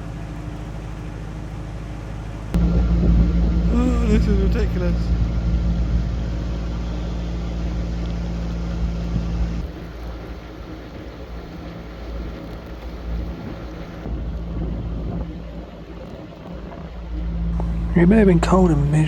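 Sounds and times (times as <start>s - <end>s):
boat diesel engine running: 0.0s - 19.0s
wind buffeting microphone: 2.5s - 19.0s.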